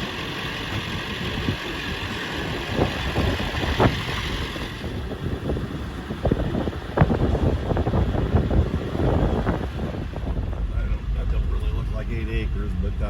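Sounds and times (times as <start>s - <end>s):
vehicle engine running: 0.0s - 13.0s
wind noise: 0.0s - 13.0s.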